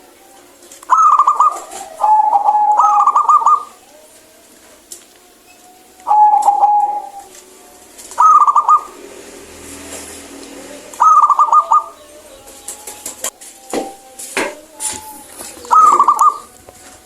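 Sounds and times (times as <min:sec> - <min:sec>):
dove rolling trilled coo: 0:00.0 - 0:17.0.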